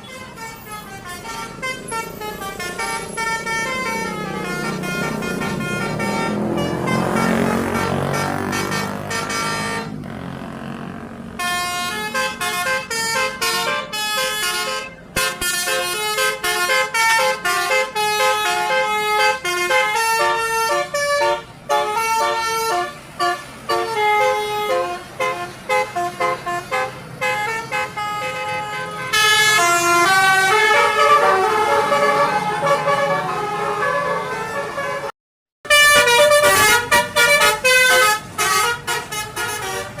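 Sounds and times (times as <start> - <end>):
musical air horn: 0.0 - 10.0, 11.4 - 40.0.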